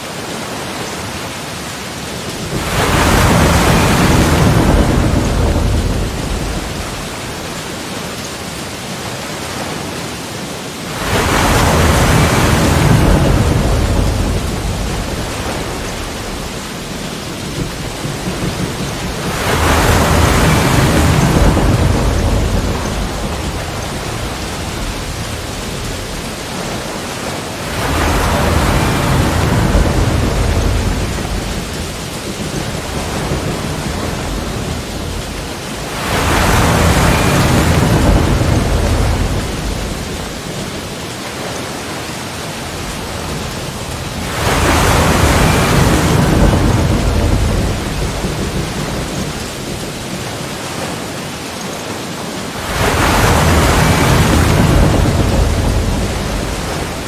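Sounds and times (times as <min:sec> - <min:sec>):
sea waves crashing on rocks: 0:00.0 - 0:57.0
surf washing: 0:00.0 - 0:57.0.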